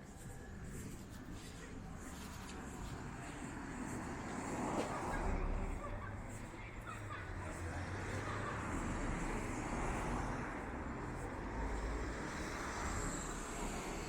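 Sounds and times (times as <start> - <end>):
cars passing: 0.0 - 14.0
road traffic hum: 0.0 - 14.0.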